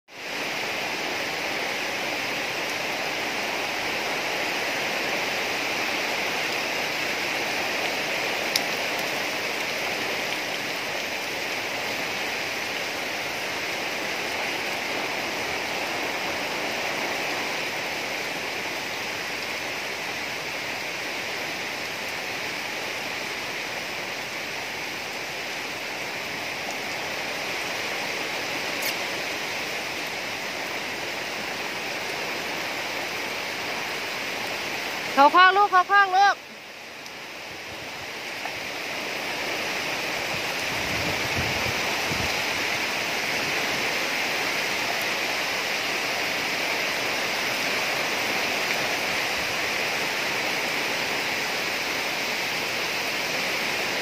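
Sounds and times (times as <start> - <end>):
heavy rain on foliage: 0.1 - 54.0
water streaming off roof edge: 0.1 - 54.0.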